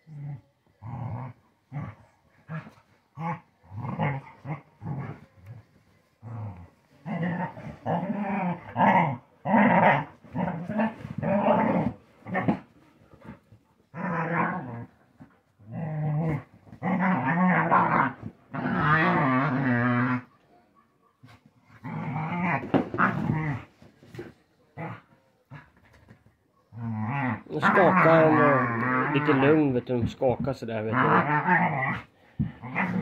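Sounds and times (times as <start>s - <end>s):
dogs growling in play: 0.0s - 20.4s, 21.1s - 29.7s, 30.9s - 33.0s.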